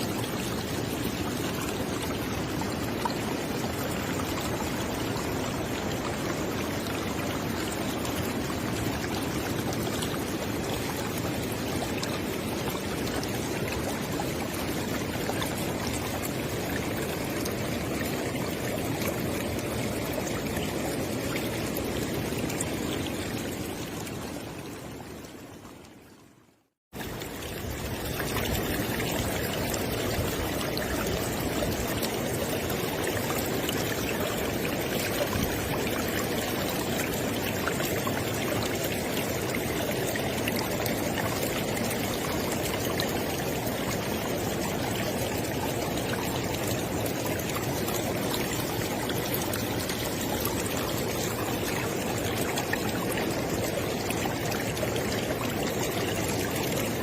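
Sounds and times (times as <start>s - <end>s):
river water rushing: 0.0s - 25.4s, 27.0s - 57.0s.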